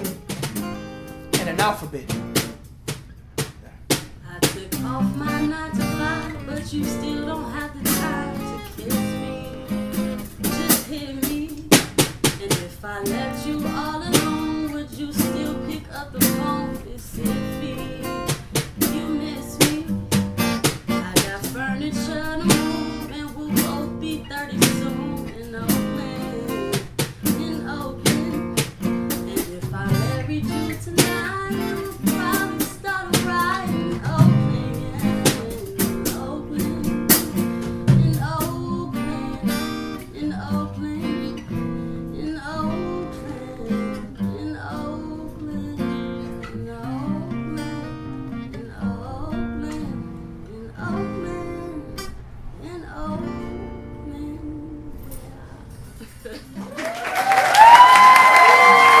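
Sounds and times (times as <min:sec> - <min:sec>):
acoustic guitar strumming: 0:00.0 - 0:55.2.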